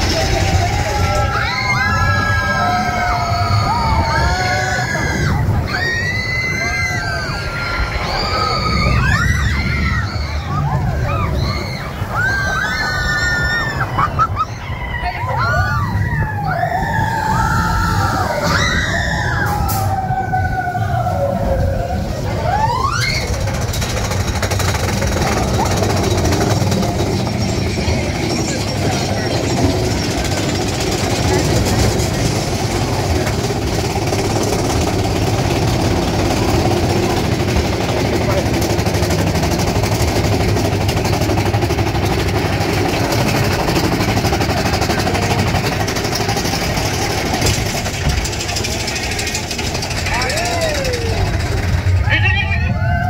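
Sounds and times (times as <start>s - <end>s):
high wailing tones: 0.0s - 53.0s
roller coaster rumble: 0.0s - 53.0s
train cars rattling: 0.0s - 53.0s.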